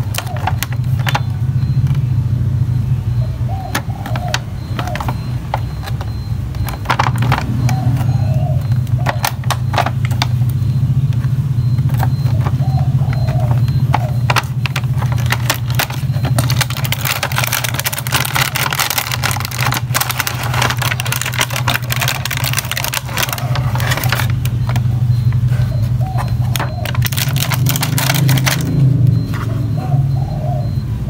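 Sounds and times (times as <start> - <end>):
plastic packaging crinkling: 0.0 - 1.4, 3.7 - 24.9, 25.9 - 28.9.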